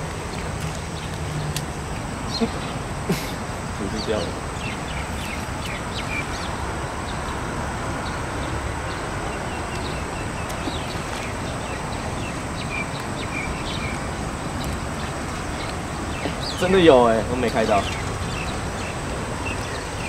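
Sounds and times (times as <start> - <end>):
road traffic hum: 0.0 - 20.0
small birds chirping: 0.0 - 20.0.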